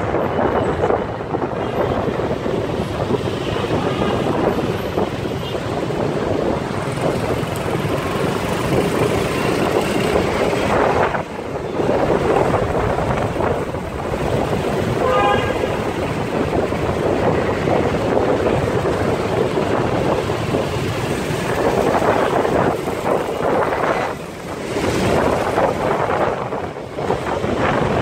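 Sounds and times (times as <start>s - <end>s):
traffic noise: 0.0s - 28.0s
wind rushing over microphone: 0.0s - 28.0s.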